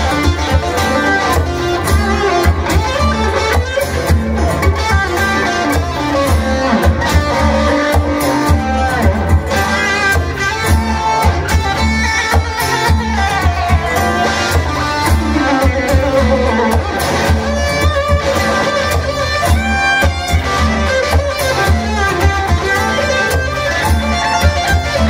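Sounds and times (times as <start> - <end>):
drums: 0.0 - 25.0
electric guitar: 0.0 - 25.0
heavy bass line: 0.0 - 25.0.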